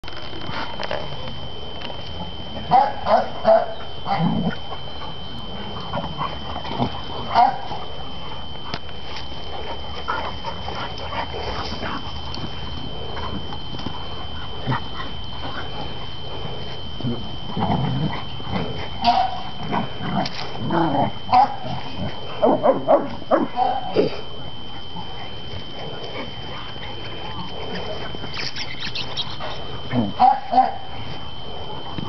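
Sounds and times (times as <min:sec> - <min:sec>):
dogs play-fighting: 0:00.1 - 0:32.0.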